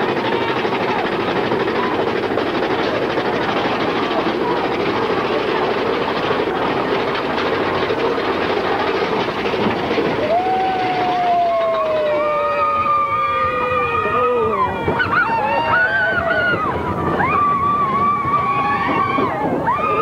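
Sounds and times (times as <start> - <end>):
roller coaster rumbling and rattling: 0.0 - 20.0.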